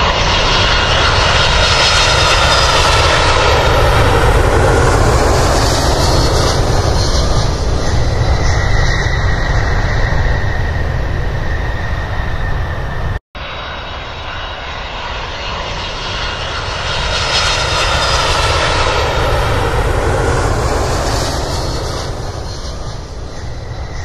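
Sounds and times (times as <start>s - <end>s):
jet airliner taking off: 0.0s - 24.0s.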